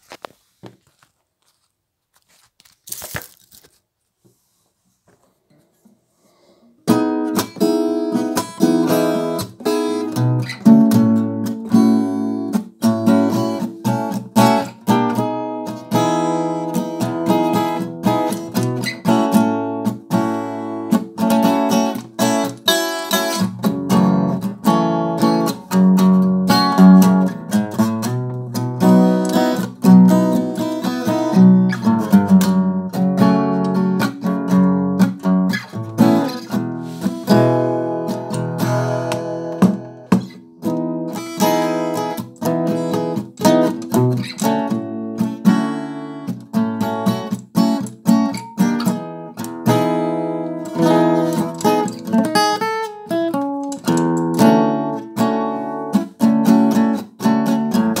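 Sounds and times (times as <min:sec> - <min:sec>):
acoustic guitar playing: 0:06.8 - 0:58.0.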